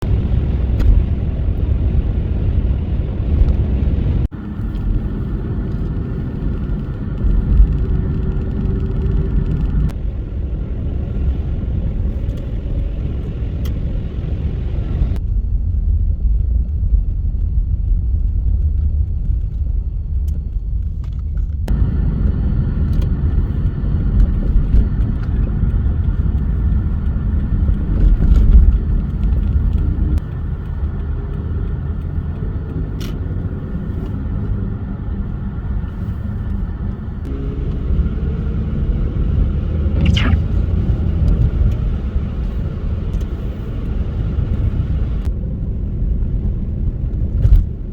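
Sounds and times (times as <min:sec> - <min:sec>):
road and engine rumble: 0:00.0 - 0:47.9.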